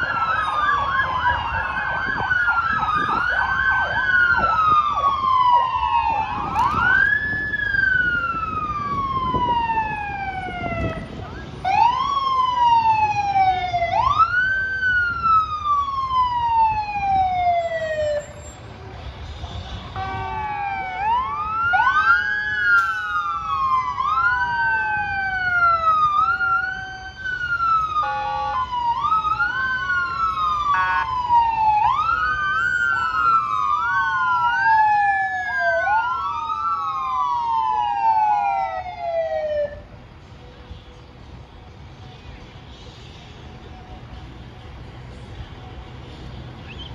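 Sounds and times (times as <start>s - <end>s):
fire engine sirens wailing: 0.0s - 40.2s.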